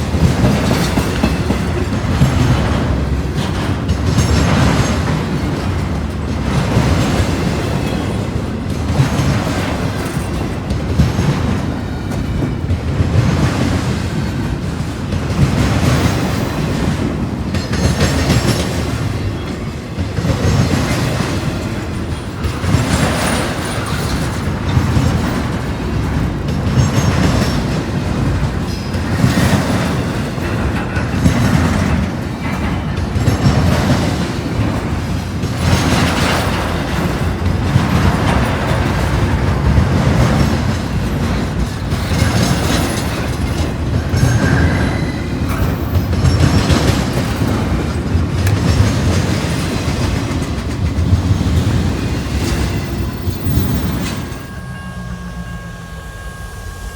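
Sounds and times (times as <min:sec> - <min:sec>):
wheels clacking over rail joints: 0:00.0 - 0:56.4
train wheels rumbling: 0:00.0 - 0:56.9.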